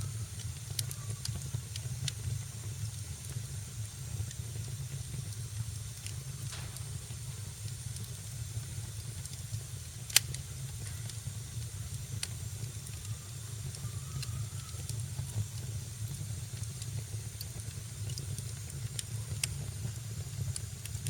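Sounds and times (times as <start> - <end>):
fire crackling and hissing: 0.0 - 21.0
fire pops: 0.3 - 21.0.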